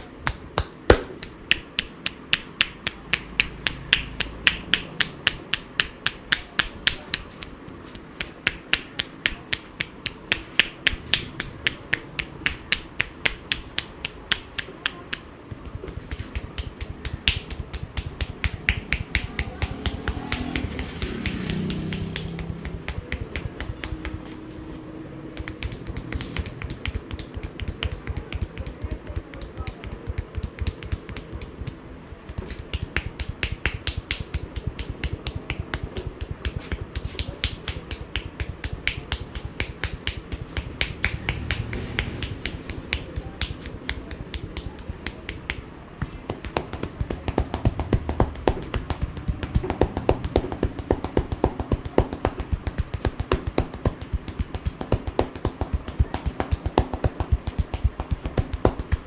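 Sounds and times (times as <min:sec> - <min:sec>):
hands tapping and slapping in massage: 0:00.0 - 0:24.4, 0:25.3 - 0:59.0.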